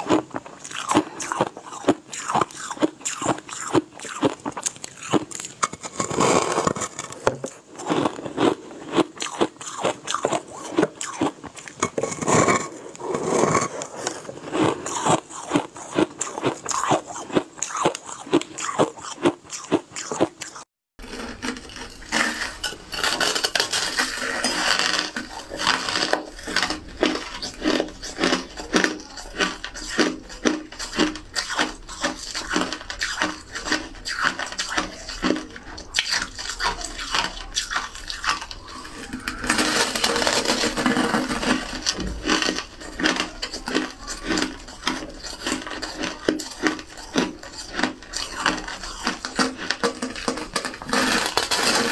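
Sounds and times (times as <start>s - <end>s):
teeth crunching ice: 0.0s - 51.9s.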